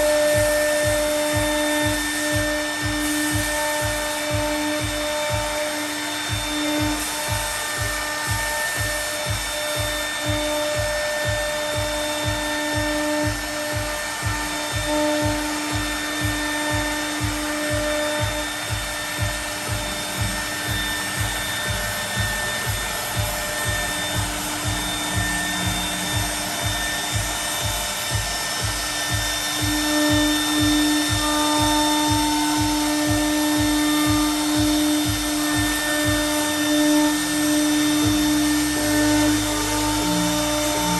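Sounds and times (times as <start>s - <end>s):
low thumping: 0.0s - 40.9s
router spindle whine: 0.0s - 40.9s.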